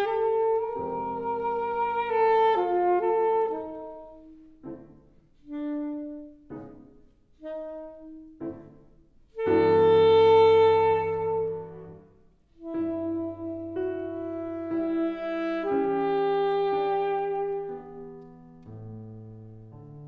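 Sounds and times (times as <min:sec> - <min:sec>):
wind ensemble playing: 0:00.0 - 0:18.3.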